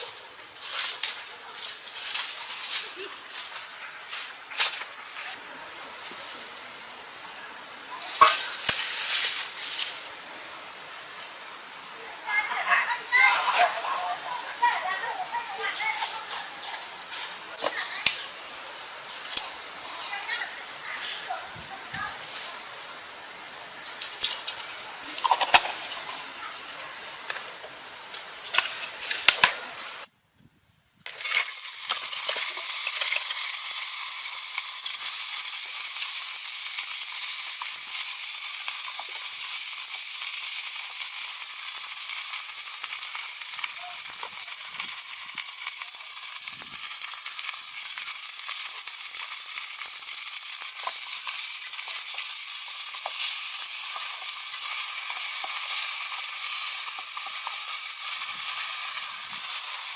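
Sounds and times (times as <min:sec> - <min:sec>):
food sizzling in hot oil: 0:00.0 - 0:30.1, 0:31.1 - 0:59.9.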